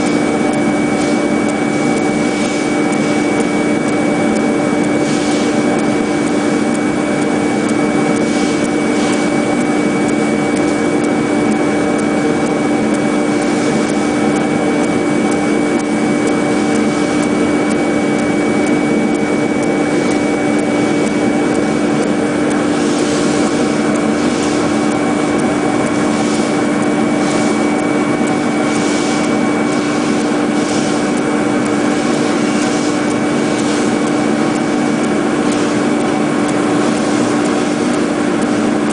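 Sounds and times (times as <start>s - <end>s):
high whine: 0.0s - 36.6s
machine motor hum: 0.0s - 38.9s.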